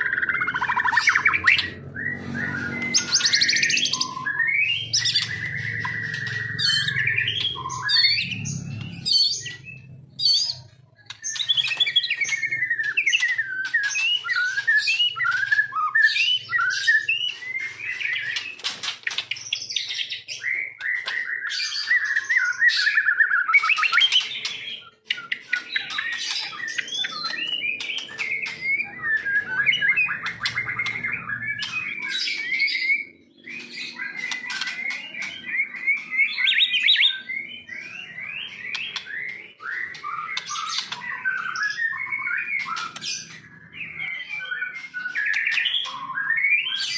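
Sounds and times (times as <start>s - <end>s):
songbird whistles and trills: 0.0s - 46.9s.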